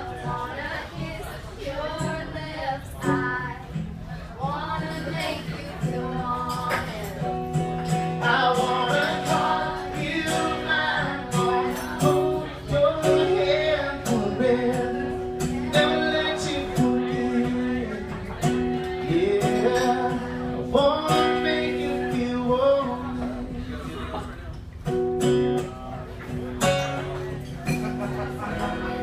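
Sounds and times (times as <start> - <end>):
crowd singing along: 0.0 - 23.5
acoustic guitar strumming: 0.0 - 29.0.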